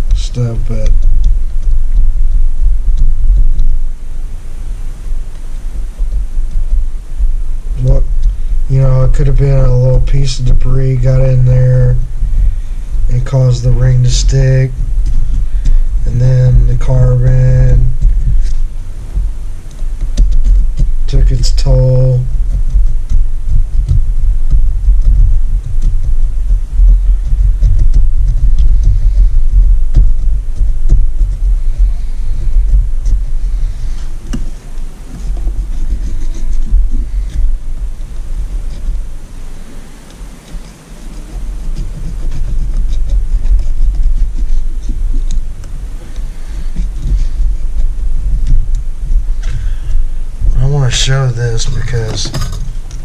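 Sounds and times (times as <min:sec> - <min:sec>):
heavy low rumble: 0:00.0 - 0:53.0.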